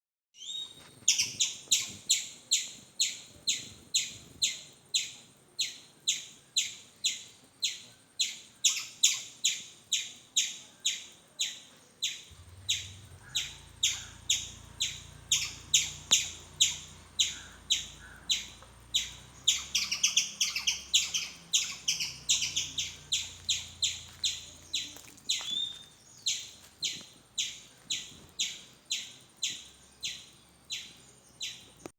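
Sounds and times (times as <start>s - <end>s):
squirrel chirping calls: 0.4s - 31.9s.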